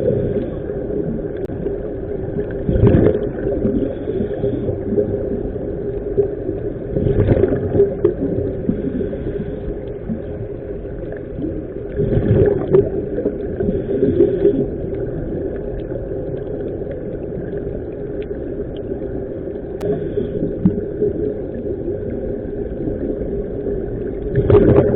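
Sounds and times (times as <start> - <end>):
water and motor rumble: 0.0 - 24.9
water gurgling surges: 0.0 - 24.9.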